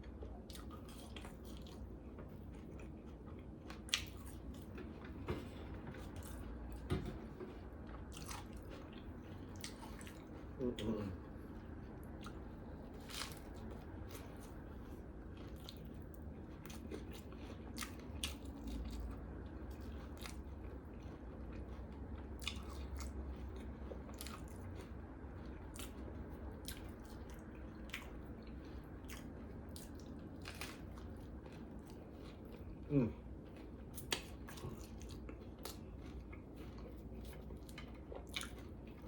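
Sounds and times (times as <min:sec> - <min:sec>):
low steady hum: 0:00.0 - 0:39.0
person chewing crunchy food: 0:00.0 - 0:39.0.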